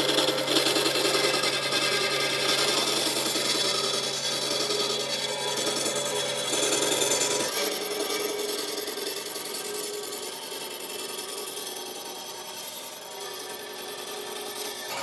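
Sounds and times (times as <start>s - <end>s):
tool scraping spinning wood: 0.0s - 15.0s
wood lathe motor humming: 0.0s - 15.0s.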